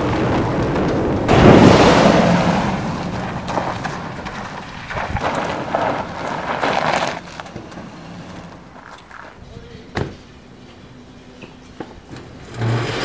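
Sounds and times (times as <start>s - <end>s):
vehicles driving fast on dirt: 0.0s - 11.0s.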